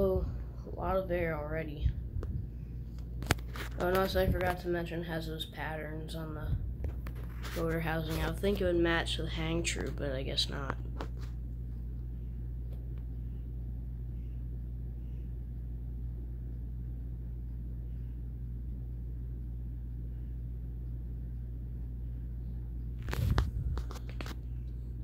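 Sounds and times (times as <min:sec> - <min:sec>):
ceiling fans humming: 0:00.0 - 0:25.0.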